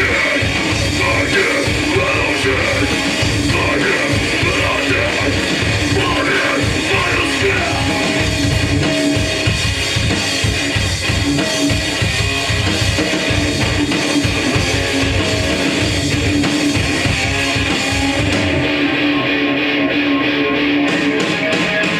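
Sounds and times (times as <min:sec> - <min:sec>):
punk band playing loud: 0:00.0 - 0:21.9.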